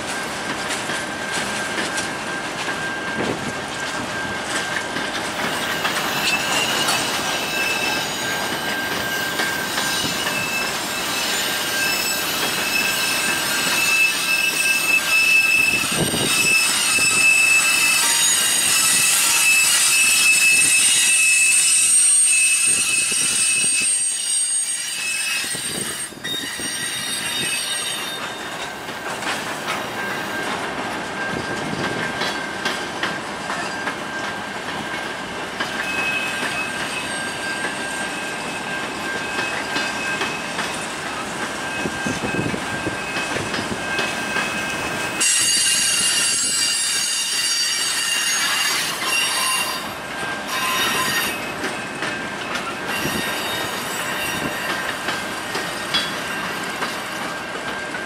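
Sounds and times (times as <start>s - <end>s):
steady high wheel squeal: 0.0s - 58.0s
train wheels clacking on rails: 0.0s - 58.0s
loud multi-tone wheel squeal: 1.2s - 58.0s.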